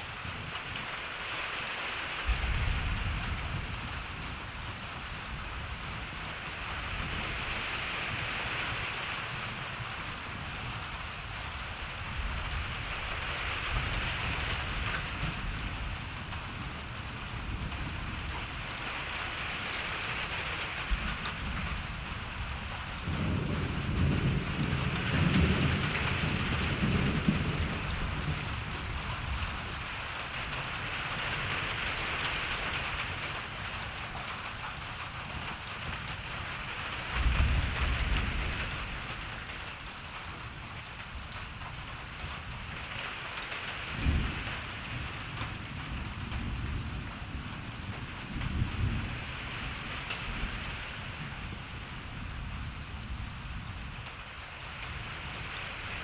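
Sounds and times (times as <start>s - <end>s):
steady rain: 0.0s - 56.0s
thunder rumbling: 2.3s - 56.0s.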